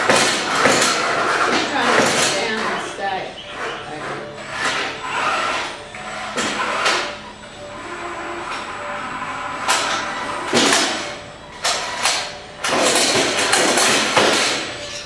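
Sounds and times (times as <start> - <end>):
electric motors whirring: 0.0 - 15.0.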